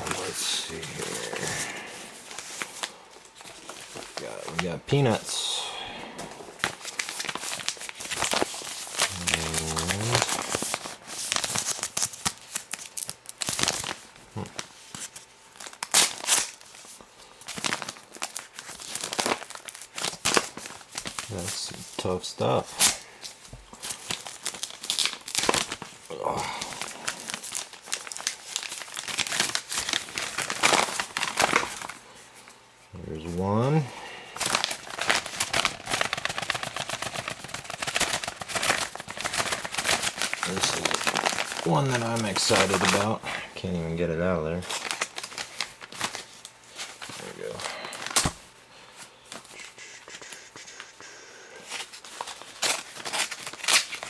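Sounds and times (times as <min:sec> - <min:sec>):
wrapping tearing: 0:00.0 - 0:05.7, 0:06.6 - 0:32.0, 0:34.4 - 0:43.3, 0:44.6 - 0:48.4, 0:51.6 - 0:54.0
packing peanuts crinkling: 0:00.0 - 0:05.9, 0:06.6 - 0:32.2, 0:33.0 - 0:48.4, 0:51.7 - 0:54.0.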